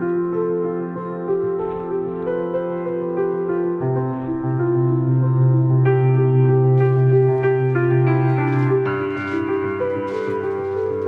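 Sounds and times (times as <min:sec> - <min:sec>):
music with slow held notes: 0:00.0 - 0:11.0.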